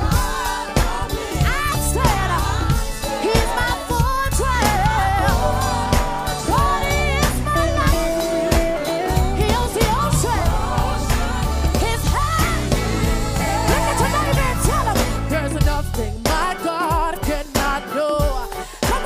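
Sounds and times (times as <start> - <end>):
heavy bass: 0.0 - 16.3
drum kit: 0.0 - 19.0
singers singing gospel: 0.0 - 19.0.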